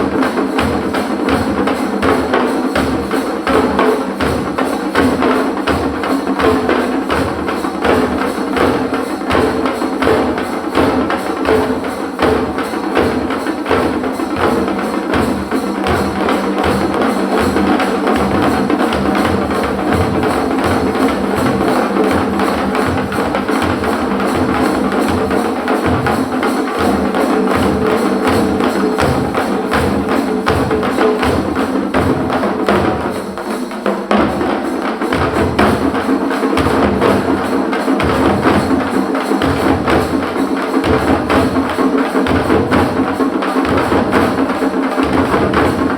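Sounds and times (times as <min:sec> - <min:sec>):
frame drums struck with sticks: 0:00.0 - 0:45.9.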